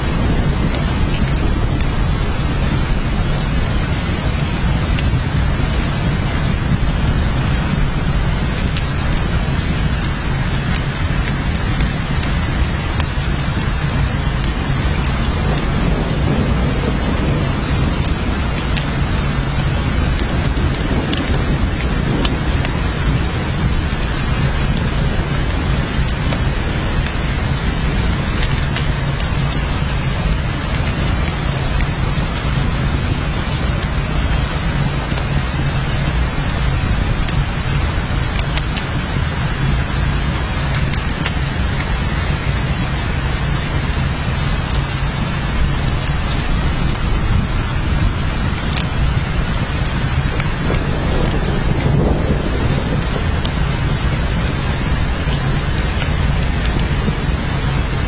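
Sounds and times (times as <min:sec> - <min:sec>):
continuous low rumble: 0:00.0 - 0:58.0
raindrop ticks: 0:00.0 - 0:58.0
steady rain falling: 0:00.0 - 0:58.0.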